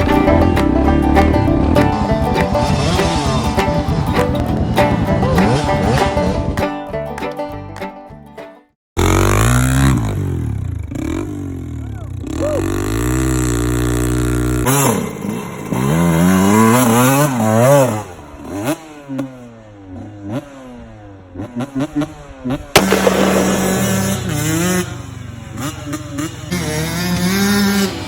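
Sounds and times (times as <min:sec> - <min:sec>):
dirt bike engine revving: 0:00.7 - 0:06.5, 0:09.0 - 0:28.0.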